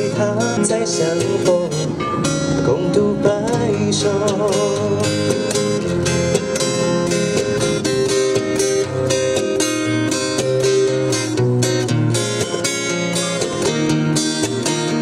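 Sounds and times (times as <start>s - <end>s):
held melody line: 0.0s - 15.0s
strummed acoustic guitar: 0.0s - 15.0s.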